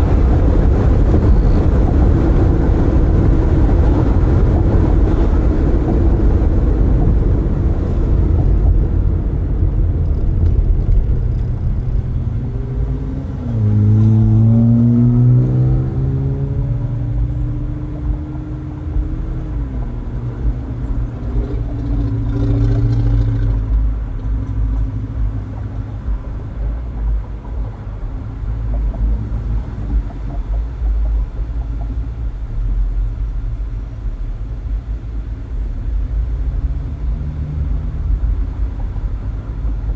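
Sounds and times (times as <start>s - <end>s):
engine accelerating: 0.0s - 39.9s
road and tyre rumble: 0.0s - 39.9s.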